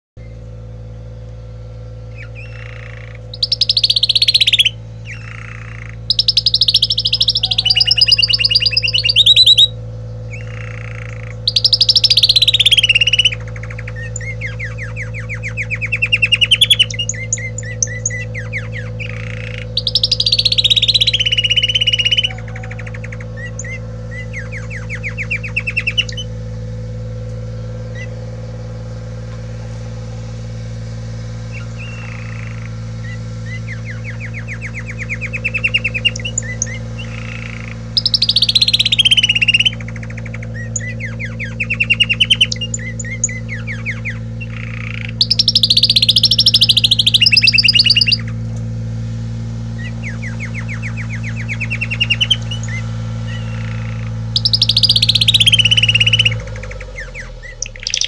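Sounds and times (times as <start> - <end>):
canary singing trills: 0.0 - 58.0
low hum: 0.0 - 58.0.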